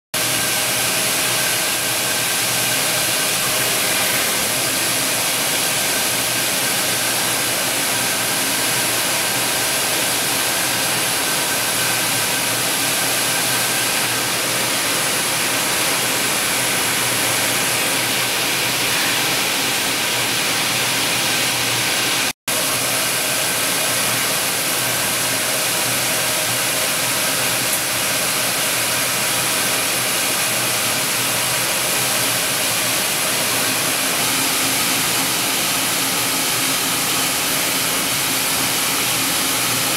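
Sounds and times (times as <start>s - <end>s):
machine hiss and hum: 0.2s - 39.9s.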